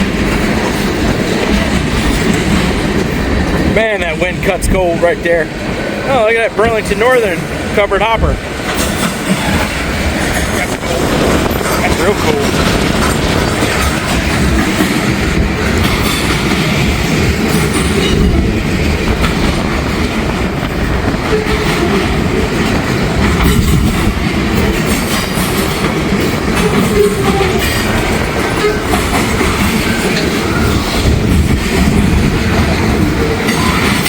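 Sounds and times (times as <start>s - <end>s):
freight train cars rolling: 0.0s - 34.0s
wind buffeting microphone: 0.0s - 34.0s.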